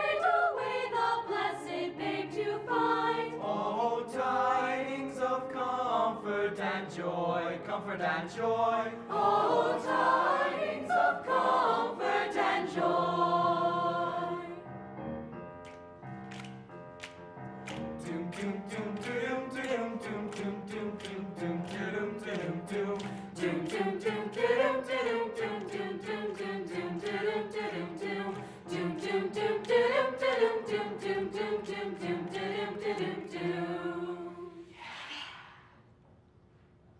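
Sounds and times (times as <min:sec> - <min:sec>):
choir singing unaccompanied: 0:00.0 - 0:14.7, 0:17.8 - 0:34.8.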